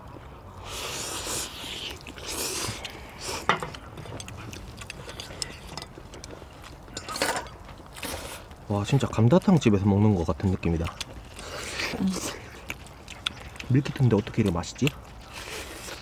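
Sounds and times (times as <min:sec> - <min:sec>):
chewing smacks and clicks: 0:00.0 - 0:16.0.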